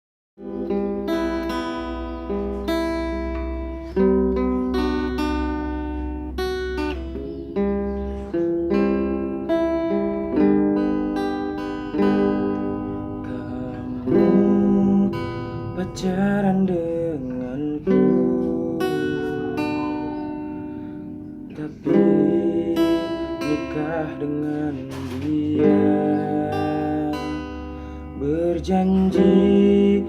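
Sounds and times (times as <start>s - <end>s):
acoustic guitar chords ringing: 0.4s - 30.0s.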